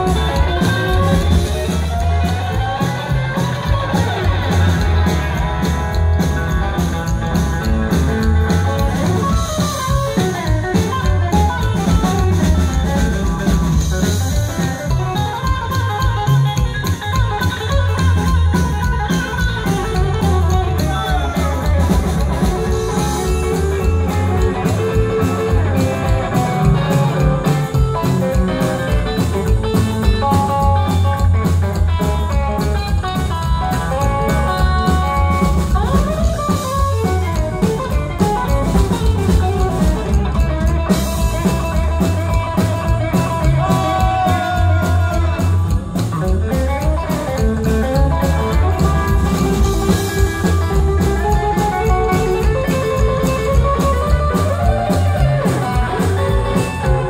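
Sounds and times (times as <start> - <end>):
rockabilly band playing live: 0.0 - 57.0.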